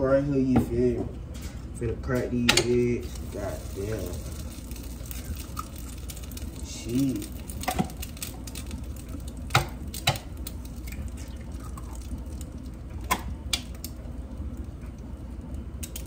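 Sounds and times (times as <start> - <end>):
steady low hum: 0.0 - 16.0
eggs cracking on bowl: 2.5 - 16.0.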